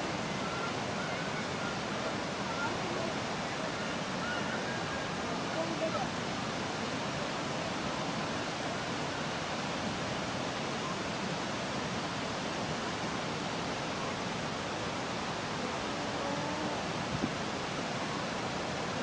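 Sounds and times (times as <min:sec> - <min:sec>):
water rushing steadily: 0:00.0 - 0:19.0.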